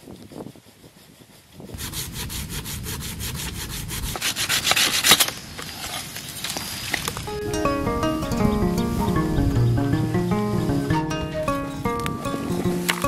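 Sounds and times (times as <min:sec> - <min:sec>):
scraping strokes: 0:00.0 - 0:07.3, 0:09.8 - 0:13.0.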